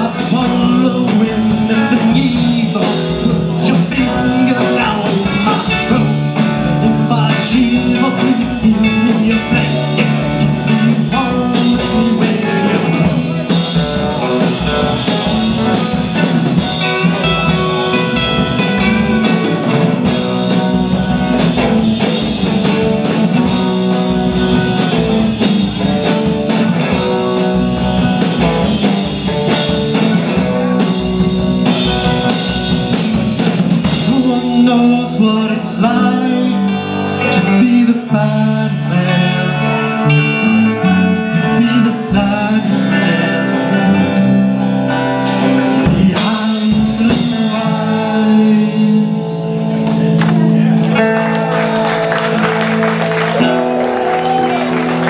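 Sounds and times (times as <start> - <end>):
person singing: 0.0 - 32.9, 33.8 - 51.1
bass guitar: 0.0 - 55.0
drum kit: 0.0 - 55.0
electric guitars: 0.0 - 55.0.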